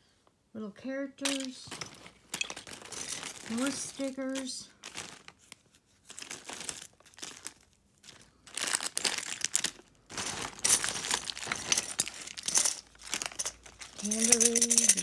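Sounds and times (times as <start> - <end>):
plastic bags crinkling: 1.2 - 15.0.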